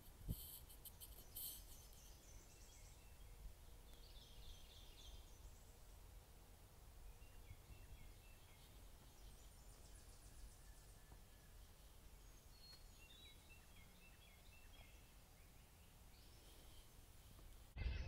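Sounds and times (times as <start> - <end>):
faint birdsong trills: 0.0 - 18.0.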